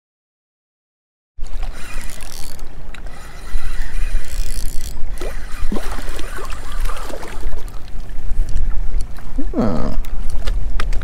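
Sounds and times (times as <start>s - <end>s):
wind buffeting microphone: 1.4s - 11.0s.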